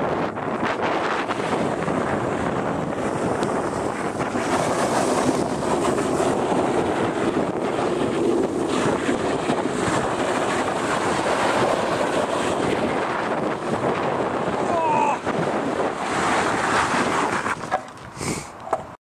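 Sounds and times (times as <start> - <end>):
longboard wheels rolling on asphalt: 0.0 - 19.0
wind buffeting microphone: 0.0 - 19.0.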